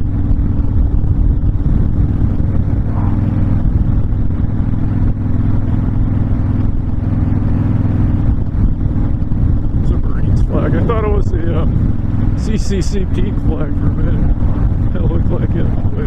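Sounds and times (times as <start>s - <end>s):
motorcycle engine drone: 0.0s - 16.0s
wind rush: 0.0s - 16.0s.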